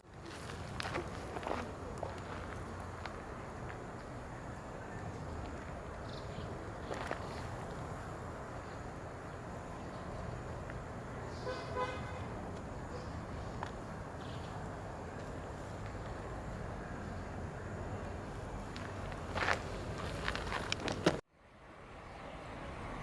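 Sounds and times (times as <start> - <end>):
distant traffic: 0.0 - 23.0.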